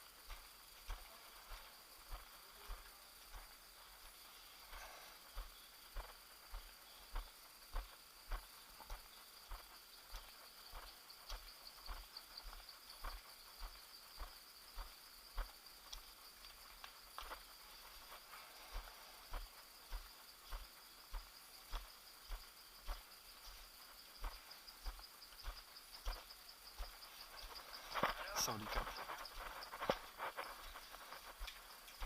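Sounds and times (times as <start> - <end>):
high-pitched insect trill: 0.0 - 32.0
footsteps walking: 0.3 - 32.0.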